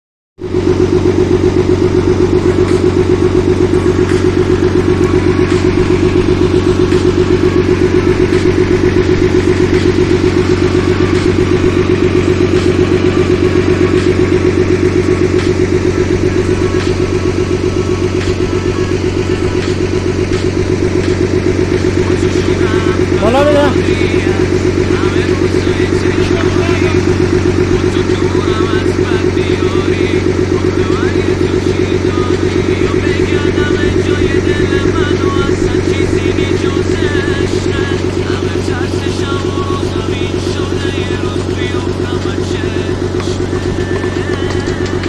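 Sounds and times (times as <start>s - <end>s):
tractor diesel engine idling: 0.4s - 45.0s.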